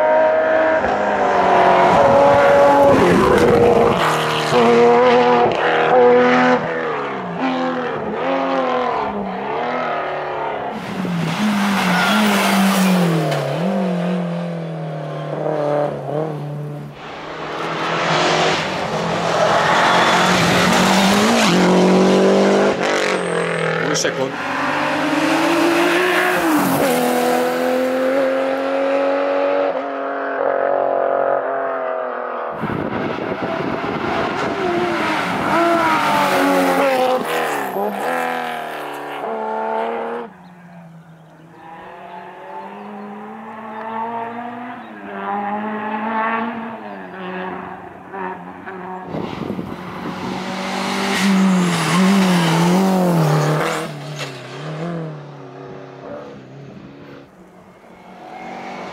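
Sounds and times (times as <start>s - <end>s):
rally car engines revving: 0.0s - 58.9s.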